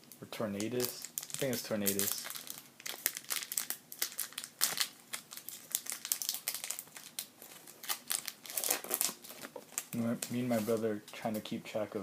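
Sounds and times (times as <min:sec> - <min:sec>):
foil wrapper crinkling: 0:00.6 - 0:10.9.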